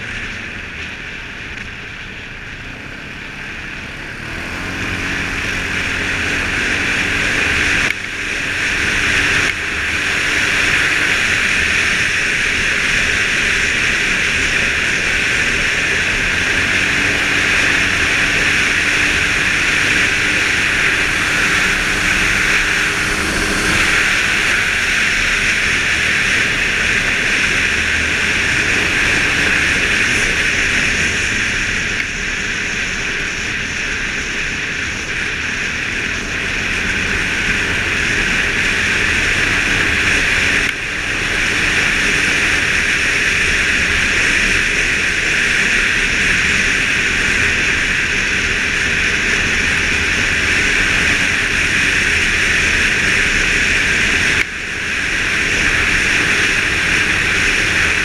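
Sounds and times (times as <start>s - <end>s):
engine hum: 0.0s - 58.0s
wind and road noise: 0.0s - 58.0s.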